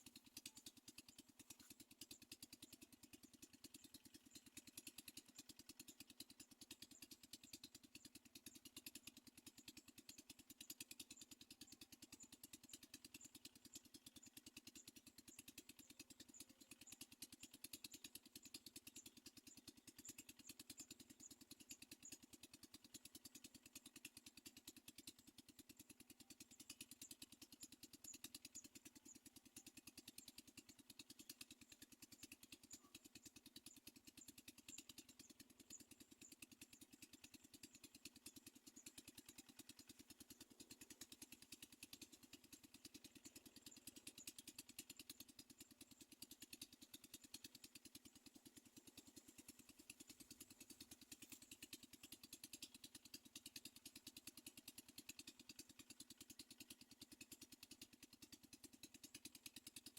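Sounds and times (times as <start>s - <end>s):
faint rapid ticking buzz: 0.0s - 59.9s.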